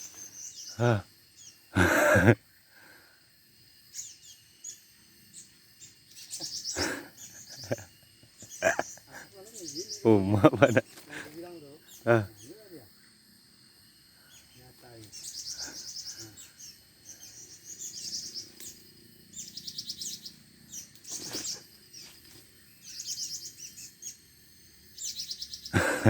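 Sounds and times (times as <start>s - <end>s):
songbird trilled chirps: 0.0s - 2.4s, 3.8s - 13.1s, 14.2s - 25.8s.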